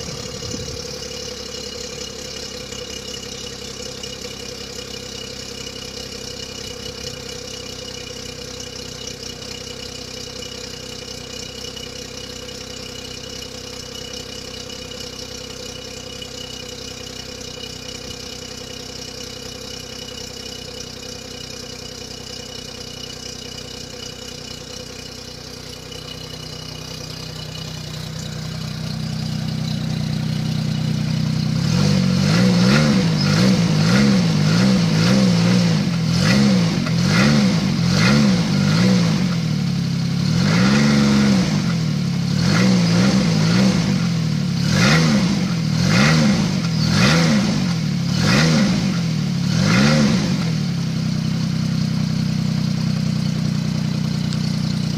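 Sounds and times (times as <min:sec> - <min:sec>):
snowmobile engine idling and revving: 0:00.0 - 0:54.9.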